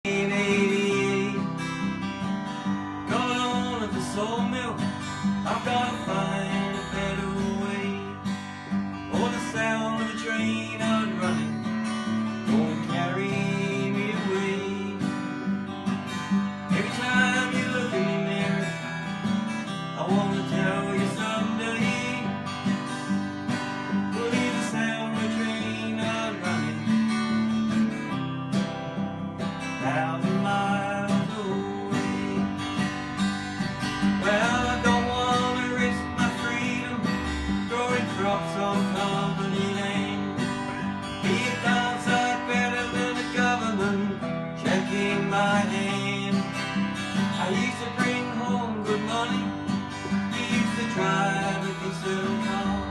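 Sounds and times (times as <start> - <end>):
acoustic guitar strumming: 0.0 - 52.9
bending guitar melody line: 0.0 - 52.9.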